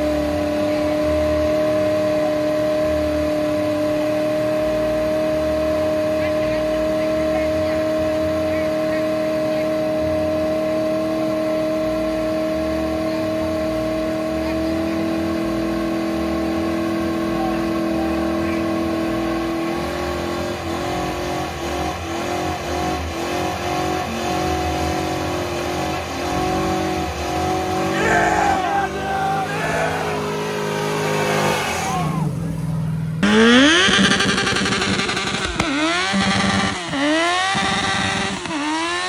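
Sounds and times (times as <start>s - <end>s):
car engine revving high: 0.0s - 39.0s
tires spinning: 0.0s - 39.0s.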